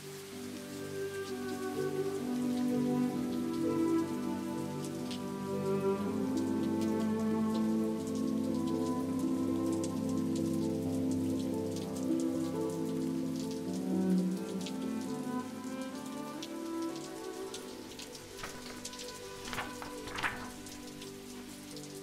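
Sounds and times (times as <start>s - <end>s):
soft sustained music notes: 0.0s - 22.0s
steady rain: 0.0s - 22.0s.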